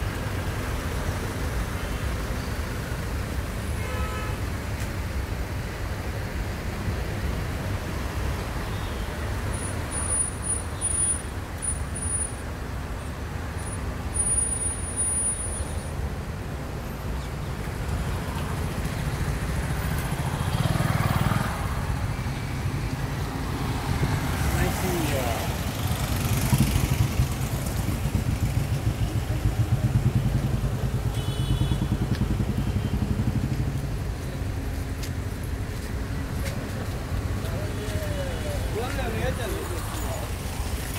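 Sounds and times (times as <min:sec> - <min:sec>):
vehicle engines rumbling: 0:00.0 - 0:40.9.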